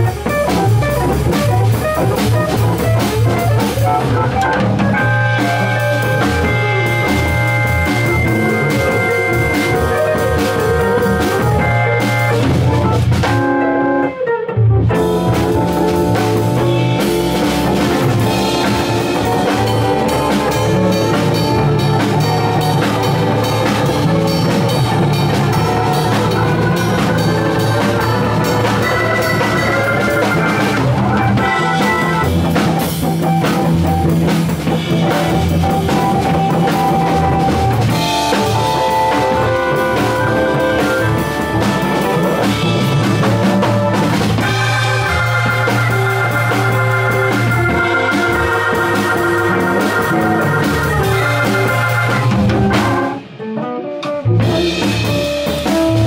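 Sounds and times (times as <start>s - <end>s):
jazz band playing: 0.0s - 56.0s.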